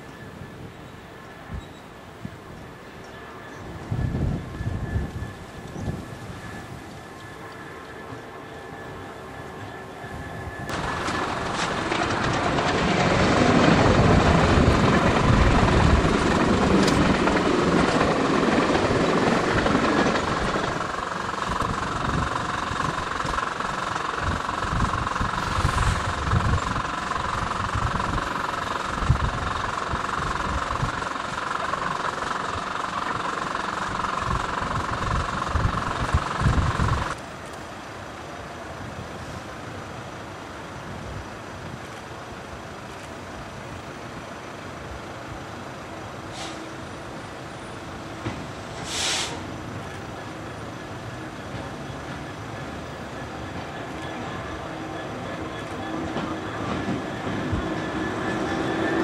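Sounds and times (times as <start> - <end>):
diesel locomotive engine: 0.0 - 59.0
wheel and rail noise: 0.0 - 59.0.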